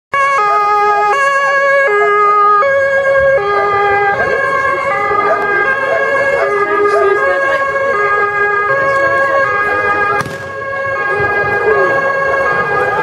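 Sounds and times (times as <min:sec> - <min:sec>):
two-tone police siren: 0:00.1 - 0:13.0.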